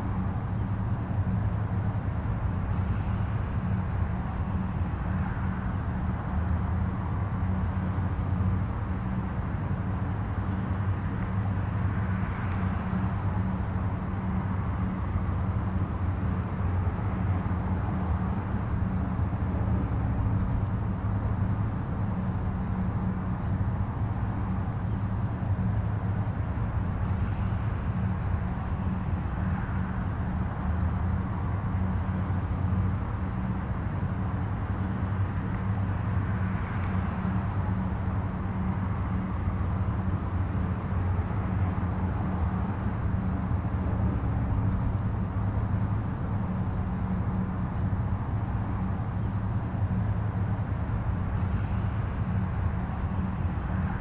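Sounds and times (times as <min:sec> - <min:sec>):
distant highway traffic rumble: 0:00.0 - 0:54.0.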